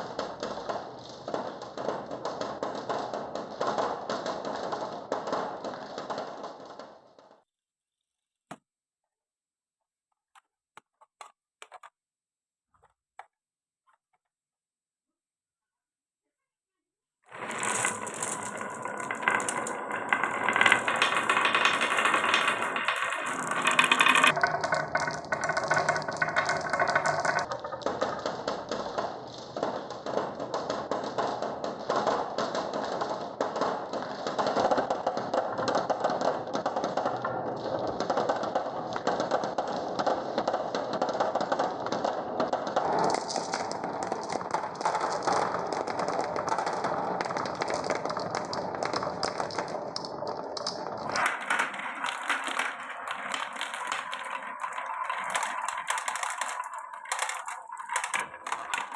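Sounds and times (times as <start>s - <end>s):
marbles rattling down wooden run: 0.0s - 7.0s, 17.3s - 58.9s.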